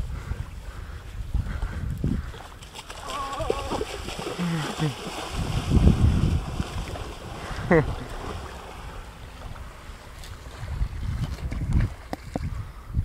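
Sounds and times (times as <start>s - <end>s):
lapping sea water: 0.0s - 13.0s
wind buffeting microphone: 0.0s - 13.0s.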